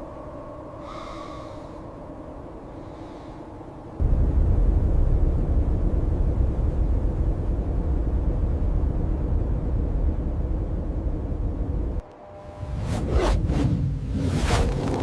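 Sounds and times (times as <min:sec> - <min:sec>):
blizzard wind roaring: 0:00.0 - 0:15.0.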